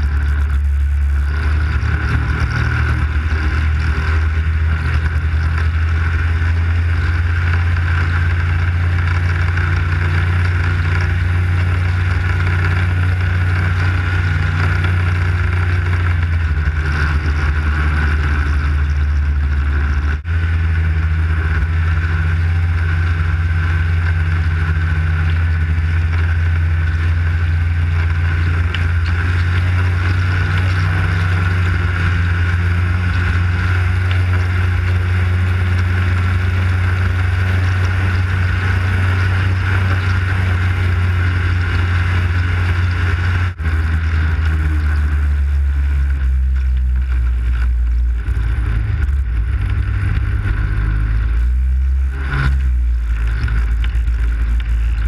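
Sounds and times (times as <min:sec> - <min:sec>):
snowmobile engine droning: 0:00.0 - 0:55.0.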